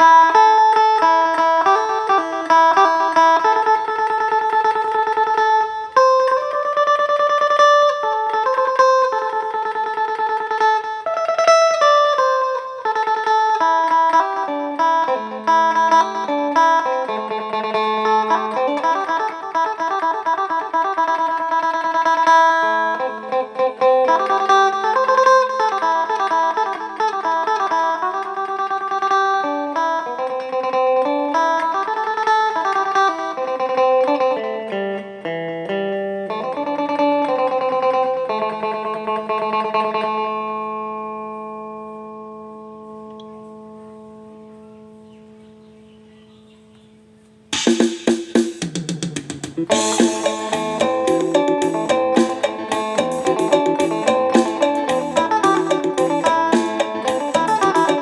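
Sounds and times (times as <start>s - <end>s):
plucked lute melody: 0.0s - 43.9s, 49.3s - 58.0s.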